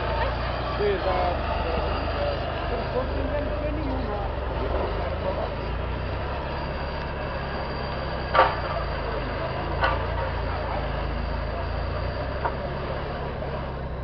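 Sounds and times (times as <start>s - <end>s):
vehicle engine at low revs: 0.0s - 14.0s.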